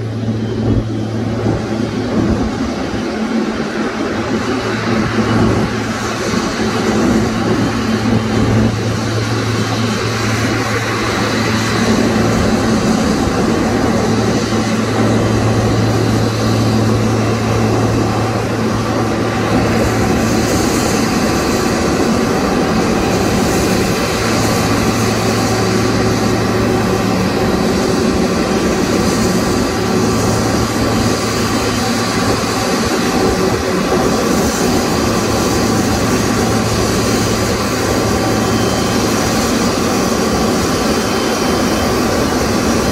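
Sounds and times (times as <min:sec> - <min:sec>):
jet engines running: 0:00.0 - 0:42.9
low hum: 0:00.0 - 0:42.9.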